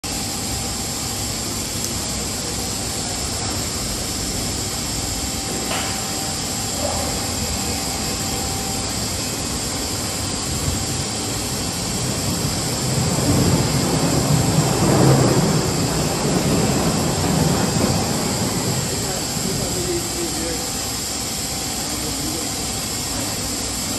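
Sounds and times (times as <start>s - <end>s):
machinery running: 0.0s - 23.9s.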